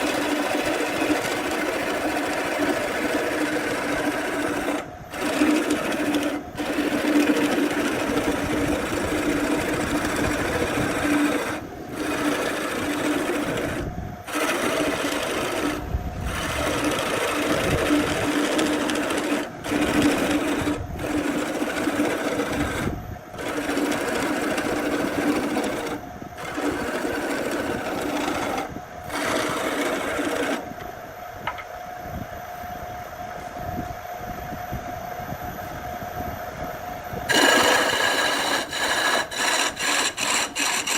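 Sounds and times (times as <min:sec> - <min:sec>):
power tool motor humming: 0:00.0 - 0:30.8, 0:37.3 - 0:40.9
higher steady whine: 0:00.0 - 0:39.7.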